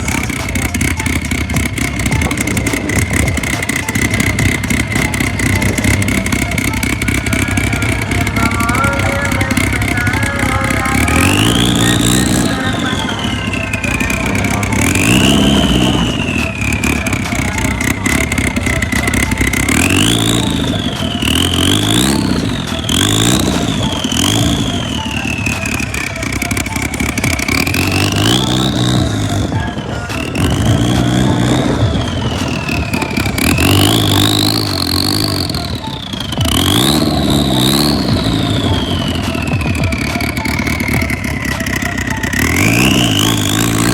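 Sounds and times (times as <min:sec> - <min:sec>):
car engine revving: 0:00.0 - 0:43.9
high whine: 0:00.0 - 0:43.9.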